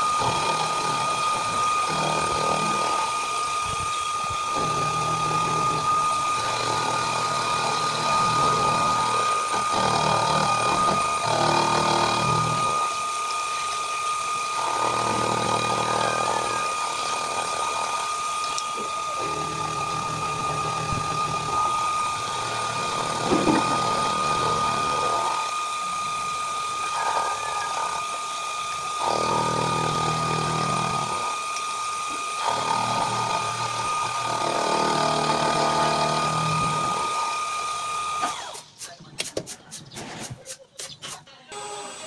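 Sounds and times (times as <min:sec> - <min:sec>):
cutter machining metal: 0:00.0 - 0:38.8, 0:41.5 - 0:42.0
milling machine whining: 0:00.0 - 0:38.9, 0:41.5 - 0:42.0.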